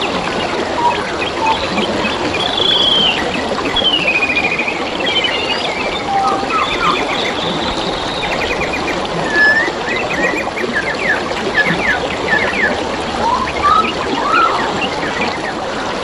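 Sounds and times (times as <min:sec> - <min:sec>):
birds singing: 0:00.0 - 0:15.6
stream water flowing: 0:00.0 - 0:16.0.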